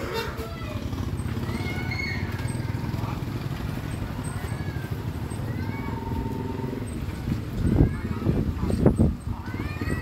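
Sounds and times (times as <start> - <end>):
faint voices: 0.0 - 10.0
small motorbike engine running: 0.0 - 10.0.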